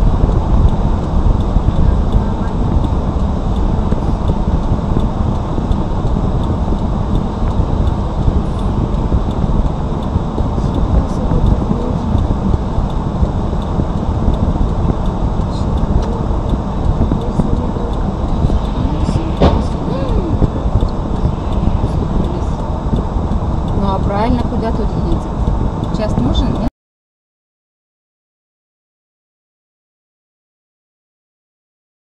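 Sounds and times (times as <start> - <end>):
car cabin rumble: 0.0 - 26.7.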